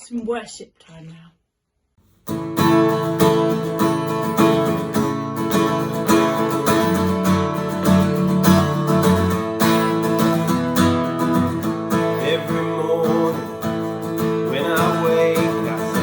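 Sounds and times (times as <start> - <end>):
acoustic guitar strumming: 2.1 - 16.0.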